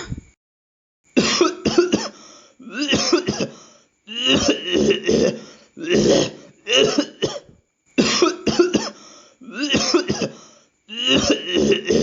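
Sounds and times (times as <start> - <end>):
person clearing throat: 1.2 - 12.0
person coughing: 1.2 - 12.0.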